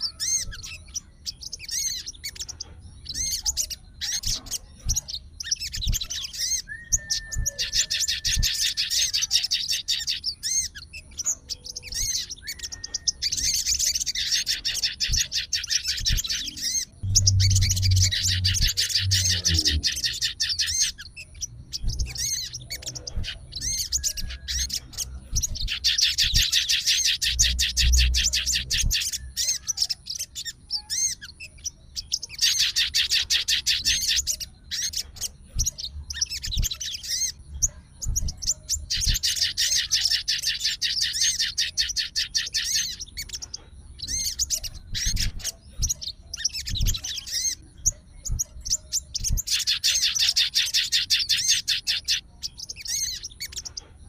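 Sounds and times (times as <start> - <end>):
songbird trilling: 0.0 - 53.8
bird whistles and chirps: 0.0 - 53.9.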